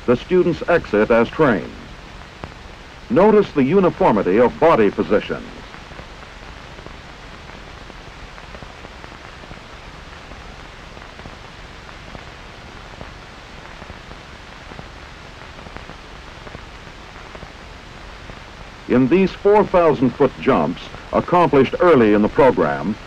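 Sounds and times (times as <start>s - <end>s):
faint crackles: 0.0s - 23.0s
steady film hiss: 0.0s - 23.0s.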